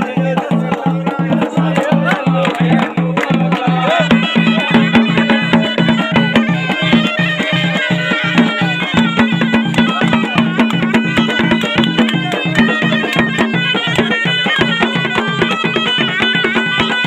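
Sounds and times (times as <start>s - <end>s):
fast drum beat: 0.0s - 17.0s
shawm playing reedy melody: 0.0s - 17.0s.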